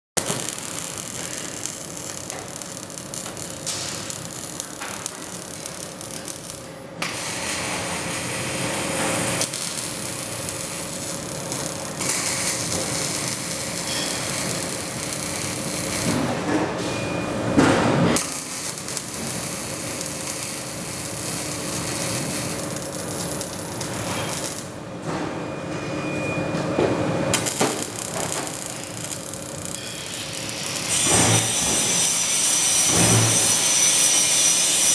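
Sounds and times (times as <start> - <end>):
welding arc crackling hiss: 0.2 - 16.4, 18.1 - 24.8, 27.3 - 34.9.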